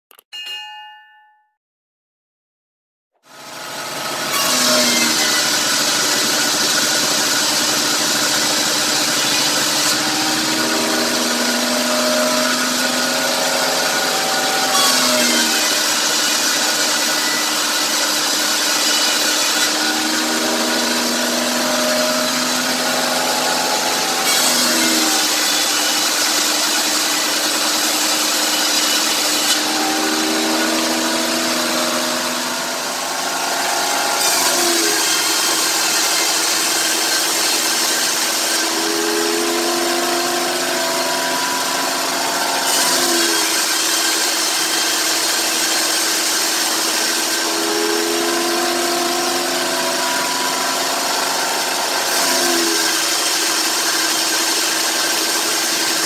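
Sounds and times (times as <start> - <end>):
bandsaw blade cutting log: 3.2 - 56.0
machine drone: 3.3 - 56.0.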